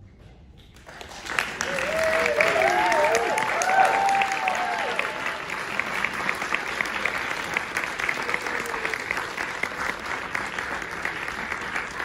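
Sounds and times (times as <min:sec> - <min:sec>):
audience applauding: 0:00.8 - 0:12.0.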